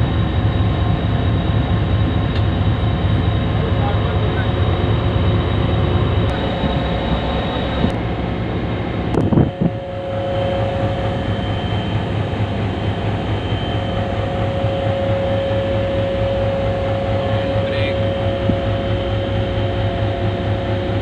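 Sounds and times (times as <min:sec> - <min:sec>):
diesel locomotive humming: 0:00.0 - 0:21.0
steady whine: 0:00.0 - 0:21.0.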